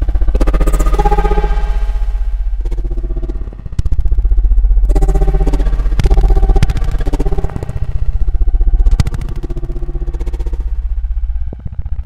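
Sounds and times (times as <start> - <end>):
held synth chords: 0.0 - 10.3
buzzing synthesizer bass: 0.0 - 12.0.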